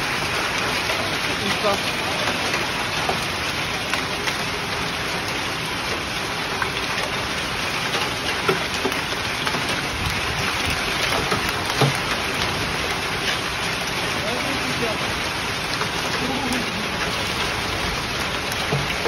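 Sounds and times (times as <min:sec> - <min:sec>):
rain downpour hiss: 0:00.0 - 0:19.0
raindrops tapping: 0:00.0 - 0:19.0.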